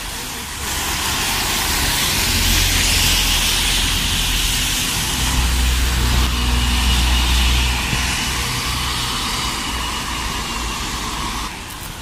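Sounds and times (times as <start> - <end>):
bus engine rumble: 0.0 - 12.0
tyres hissing on wet road: 0.0 - 12.0.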